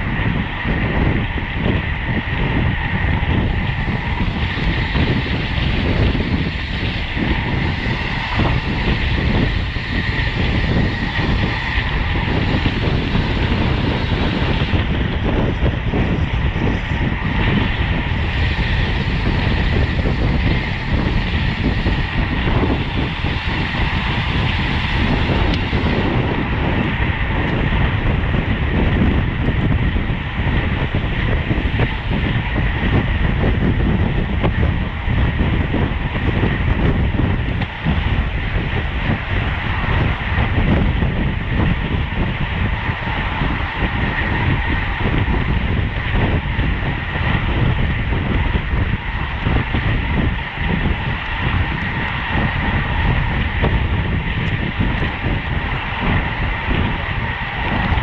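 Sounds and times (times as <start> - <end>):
bike tyres rumbling on road: 0.0 - 58.0
wind rushing: 0.0 - 58.0.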